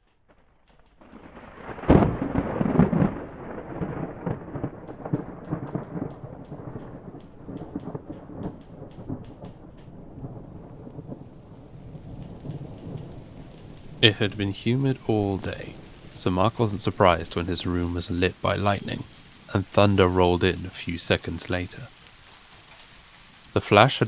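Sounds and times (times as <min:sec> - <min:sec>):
rain falling: 0:00.0 - 0:24.0
thunderclap rumbling: 0:00.3 - 0:24.0.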